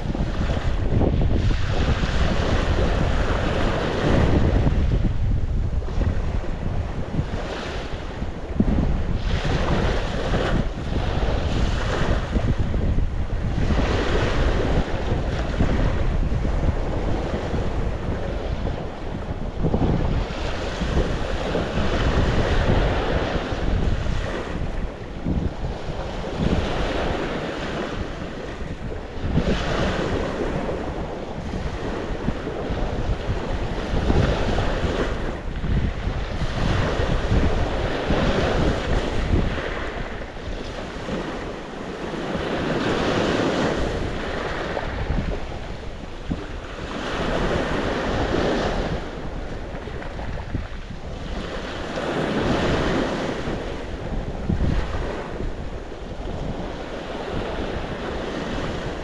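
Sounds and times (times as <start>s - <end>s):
sea waves breaking on shore: 0.0s - 59.0s
wind buffeting microphone: 0.0s - 59.0s.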